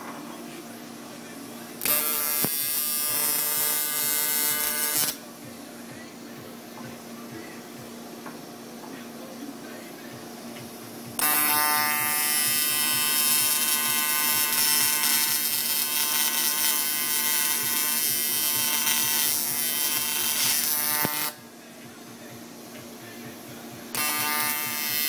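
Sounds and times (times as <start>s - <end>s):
welding arc buzzing: 0.0s - 25.0s.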